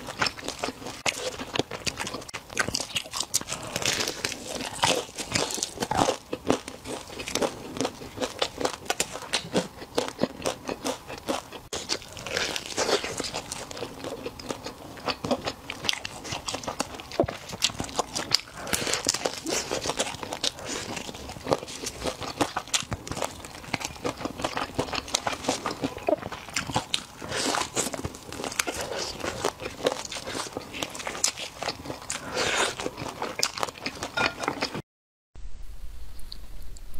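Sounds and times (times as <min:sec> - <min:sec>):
chewing and crunching: 0:00.0 - 0:34.8
crispy chicken crackling: 0:00.0 - 0:34.8.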